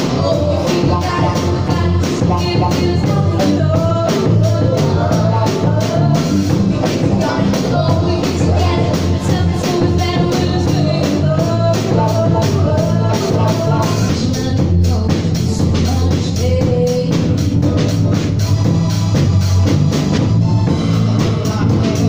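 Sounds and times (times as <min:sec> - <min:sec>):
people singing: 0:00.0 - 0:18.5, 0:20.6 - 0:22.0
drum kit beat: 0:00.0 - 0:22.0
electric bass: 0:00.0 - 0:22.0
keyboards: 0:00.0 - 0:22.0.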